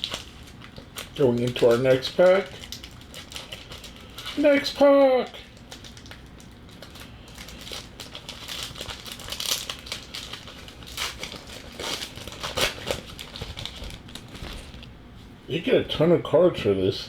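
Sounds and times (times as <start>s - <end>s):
wrapper tearing and crinkling: 0.0s - 4.8s, 5.4s - 14.9s.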